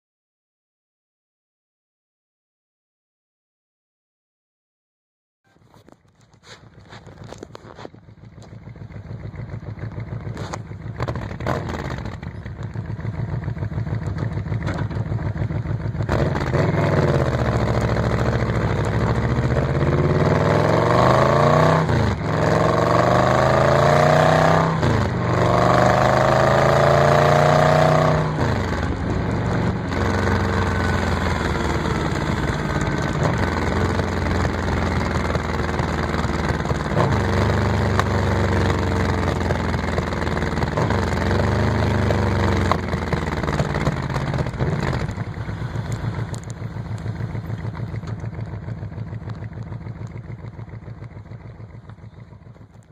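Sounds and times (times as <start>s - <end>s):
motorcycle engine accelerating: 5.5s - 52.9s.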